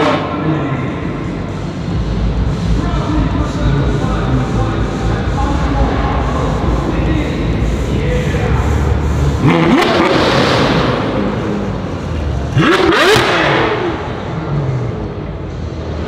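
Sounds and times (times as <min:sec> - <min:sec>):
car engine idling: 0:00.0 - 0:16.0
car engine revving: 0:00.0 - 0:16.0.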